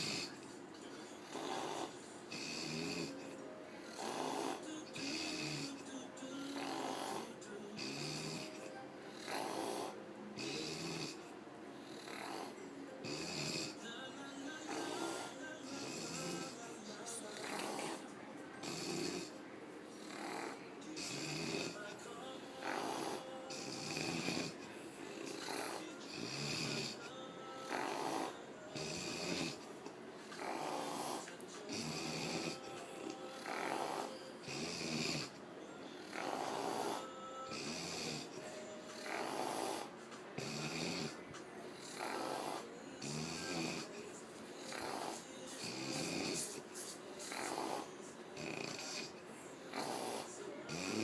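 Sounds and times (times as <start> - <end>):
woman snoring: 0.0 - 51.0.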